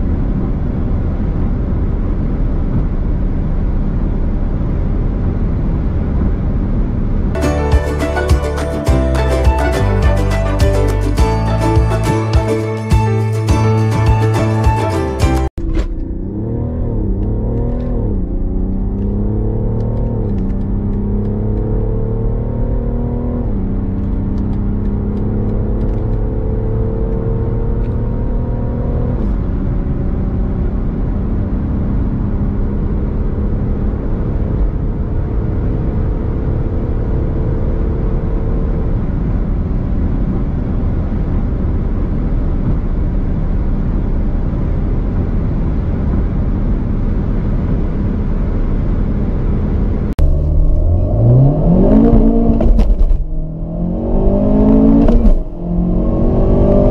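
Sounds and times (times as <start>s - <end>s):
diesel engine accelerating: 0.0s - 56.9s
wind and road noise: 0.0s - 56.9s.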